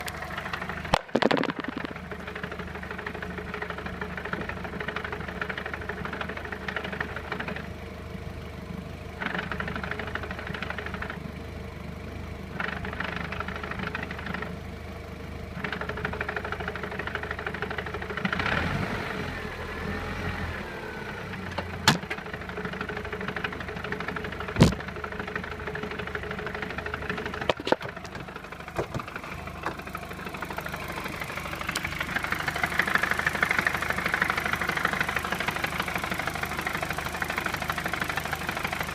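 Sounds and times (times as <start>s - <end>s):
car engine idling with rattle: 0.0s - 38.9s.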